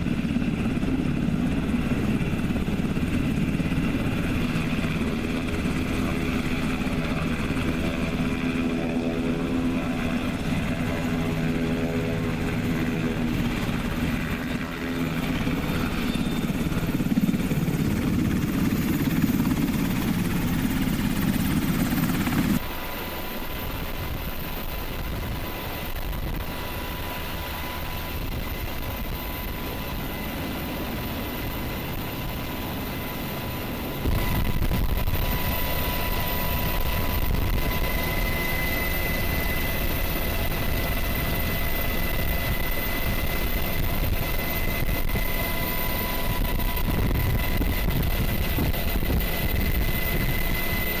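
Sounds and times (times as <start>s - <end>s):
helicopter rotor and turbine noise: 0.0s - 51.0s.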